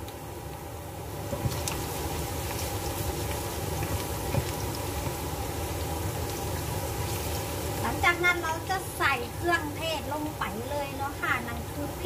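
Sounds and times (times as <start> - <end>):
paste sizzling and crackling in pan: 0.0 - 12.0.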